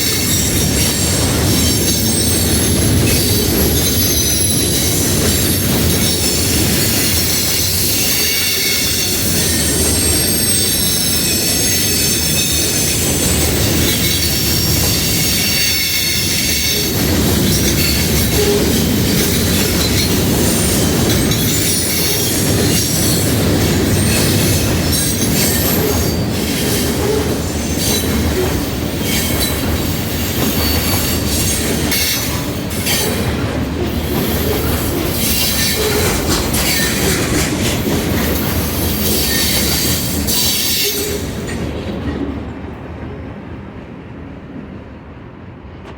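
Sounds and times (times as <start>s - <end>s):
train wheels squealing on rail: 0.0s - 42.2s
train wheels clicking: 0.0s - 42.5s.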